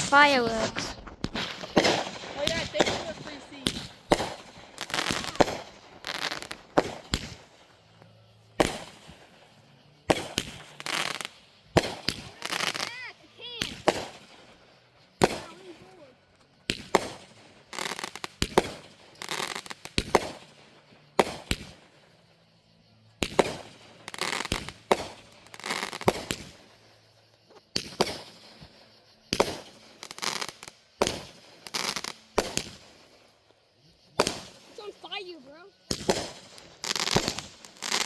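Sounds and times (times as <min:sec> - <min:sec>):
fireworks bangs and crackle: 0:00.0 - 0:22.2, 0:23.2 - 0:33.4, 0:34.2 - 0:38.0.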